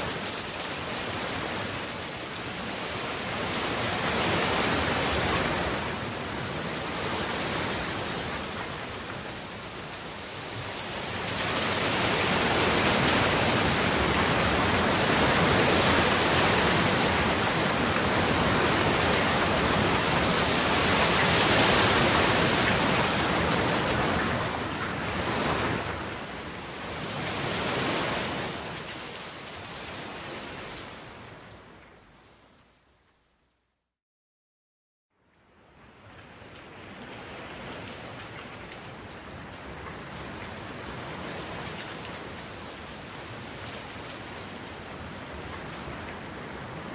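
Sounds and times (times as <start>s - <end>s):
rain falling: 0.0s - 33.3s, 35.3s - 46.9s.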